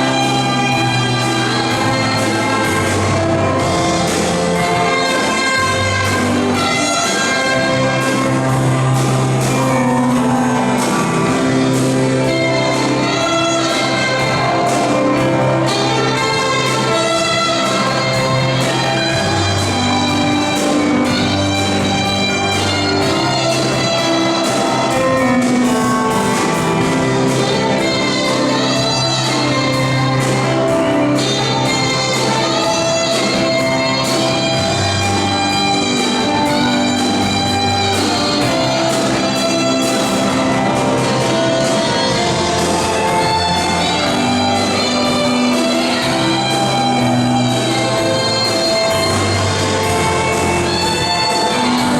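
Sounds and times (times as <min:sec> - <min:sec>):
brass band playing fanfare: 0:00.0 - 0:51.9.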